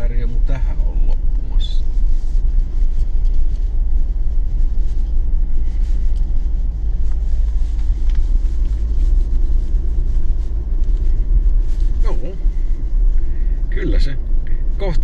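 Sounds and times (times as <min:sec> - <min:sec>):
car driving on sand: 0:00.0 - 0:15.0.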